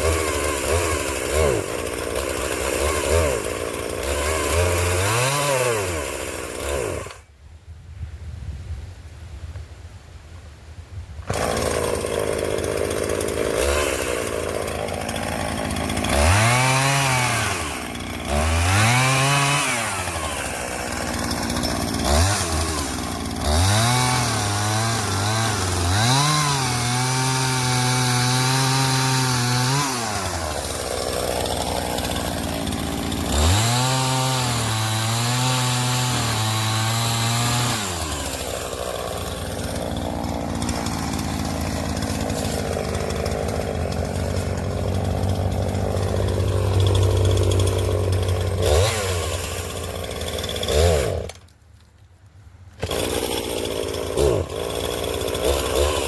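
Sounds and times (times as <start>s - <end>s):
chainsaw cutting and revving: 0.0s - 7.3s, 11.2s - 51.6s, 52.8s - 56.0s.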